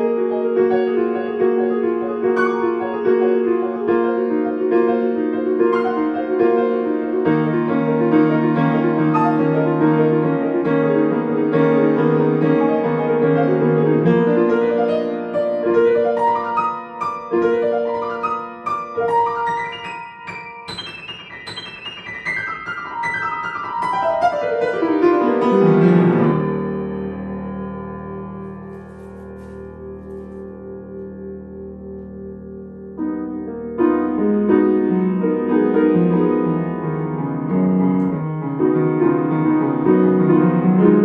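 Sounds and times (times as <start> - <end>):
grand piano solo: 0.0 - 41.0.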